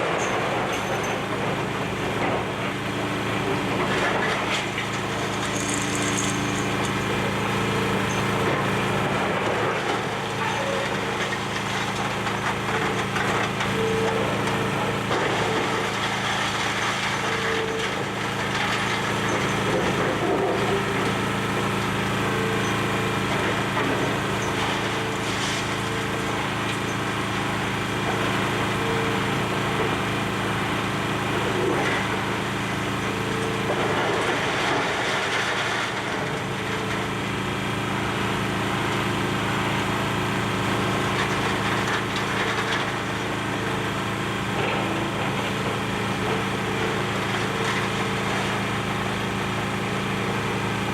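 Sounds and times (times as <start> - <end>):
excavator diesel engine: 0.0 - 50.9.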